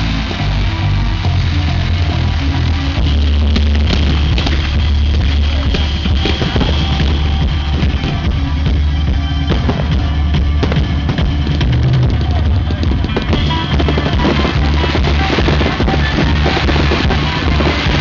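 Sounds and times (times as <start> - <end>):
fireworks banging and crackling: 0.0 - 18.0
loud rock music: 0.0 - 18.0.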